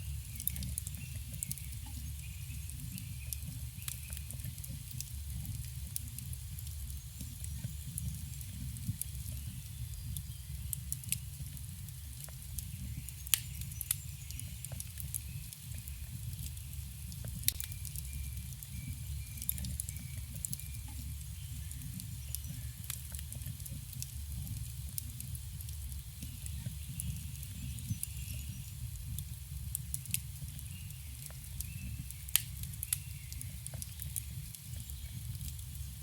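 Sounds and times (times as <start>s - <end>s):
campfire crackles and pops: 0.0s - 36.0s
low rumble of flames: 0.0s - 36.0s.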